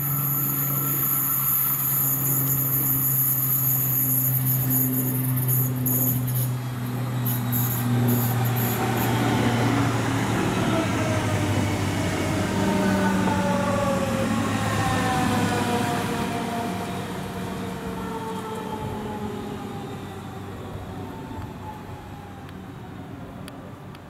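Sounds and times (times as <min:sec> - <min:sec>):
train rolling noise: 0:00.0 - 0:22.6
electric train traction whine: 0:00.0 - 0:23.0.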